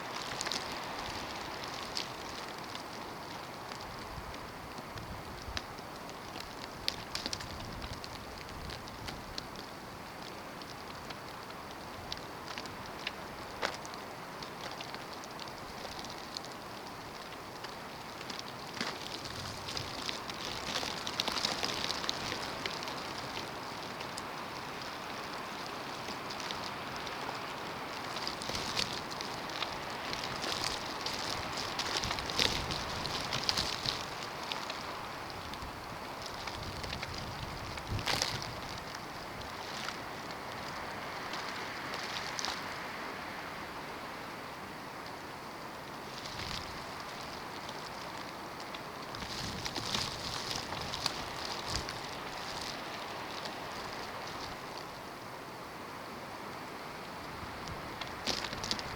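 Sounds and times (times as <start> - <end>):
snow ticking on surfaces: 0.0 - 58.9.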